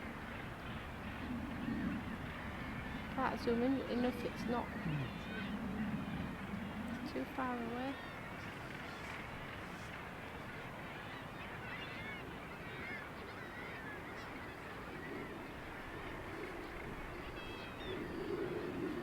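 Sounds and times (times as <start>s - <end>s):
seabirds calling harshly: 0.0s - 19.0s.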